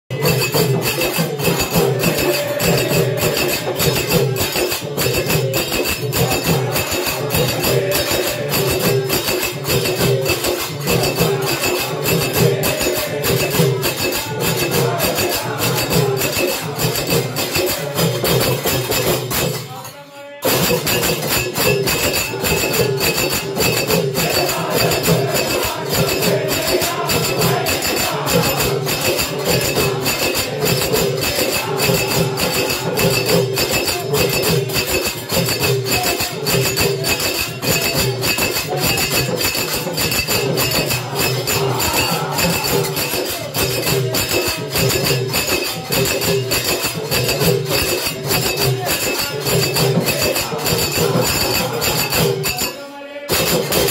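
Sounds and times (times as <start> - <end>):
fast percussion beat: 0.0 - 53.9
group singing devotional song: 0.2 - 47.2, 47.8 - 53.9.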